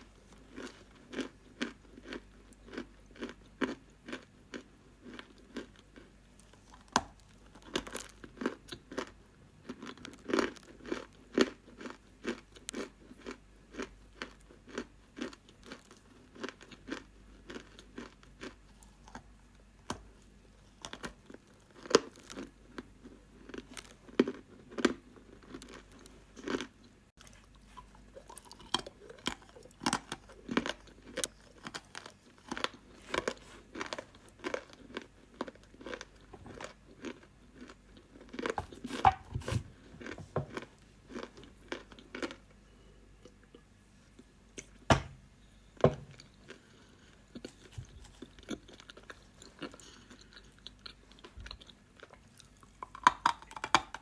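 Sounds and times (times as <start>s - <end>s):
person chewing crunchy clay: 0.0s - 44.8s, 45.4s - 54.0s.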